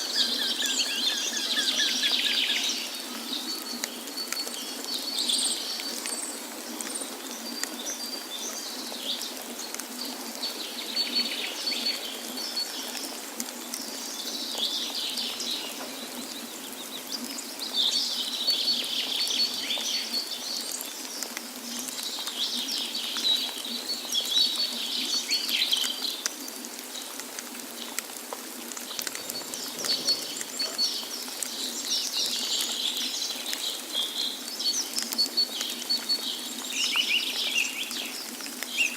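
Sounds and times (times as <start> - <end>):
songbirds chirping and trilling: 0.0 - 27.2, 28.9 - 38.9
falling water rushing: 0.0 - 38.9.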